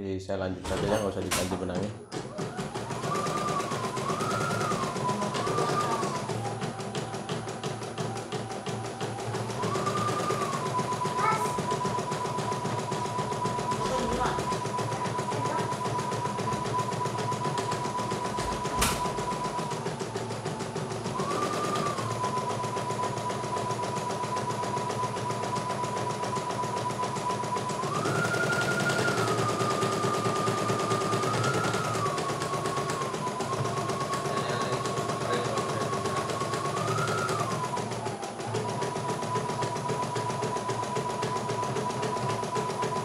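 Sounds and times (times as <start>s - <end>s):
embroidery machine stitching: 0.5s - 43.0s.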